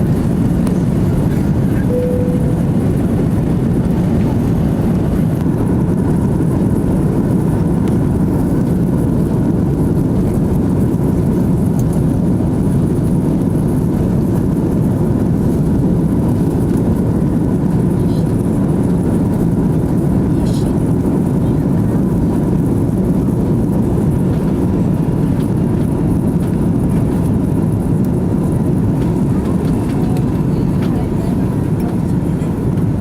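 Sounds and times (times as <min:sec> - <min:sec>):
airliner cabin engine roar: 0:00.0 - 0:33.0.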